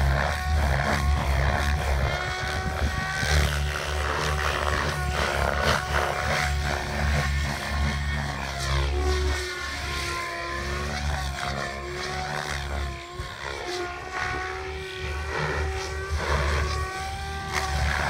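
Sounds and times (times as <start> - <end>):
model helicopter rotor whine: 0.0 - 18.0.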